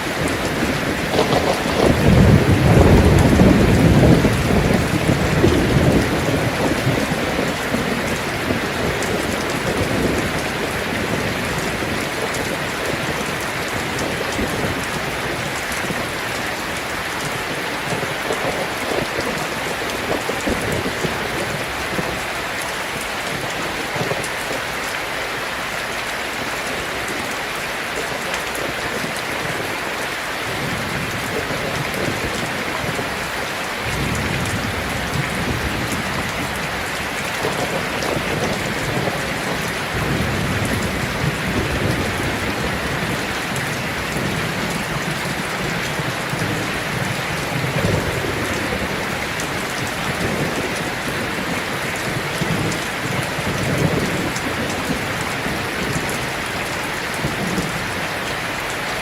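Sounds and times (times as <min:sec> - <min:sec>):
low thunder rumble: 0:00.0 - 0:22.4, 0:30.5 - 0:58.0
heavy rain on a tin roof: 0:00.0 - 0:59.0.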